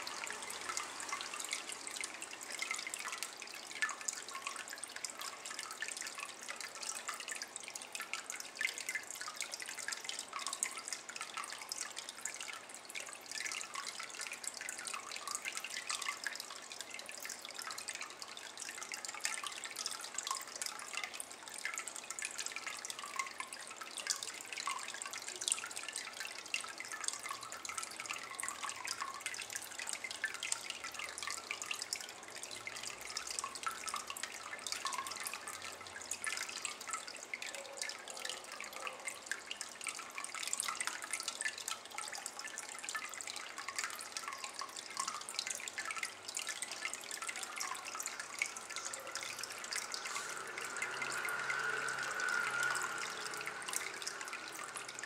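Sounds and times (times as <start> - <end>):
water trickling into basin: 0.0 - 55.0.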